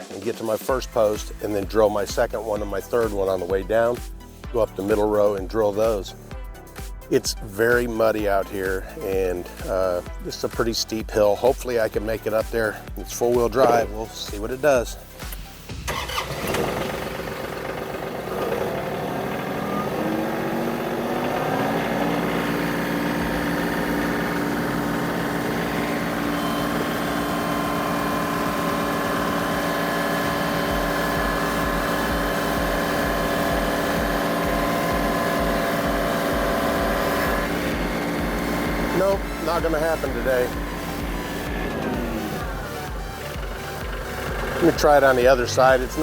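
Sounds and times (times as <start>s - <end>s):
tractor engine revving: 0.7s - 46.0s.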